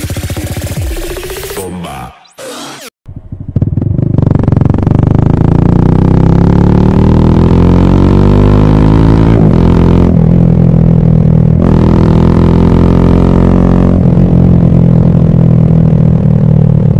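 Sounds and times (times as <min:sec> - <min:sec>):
motorcycle engine accelerating: 0:00.0 - 0:01.6, 0:03.0 - 0:16.9.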